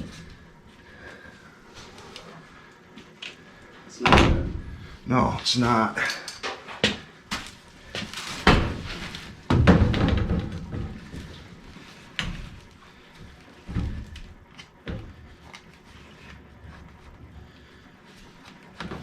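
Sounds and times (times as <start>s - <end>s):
knocks and clunks of furnace parts: 0.0s - 2.6s, 3.3s - 17.8s, 18.7s - 19.0s.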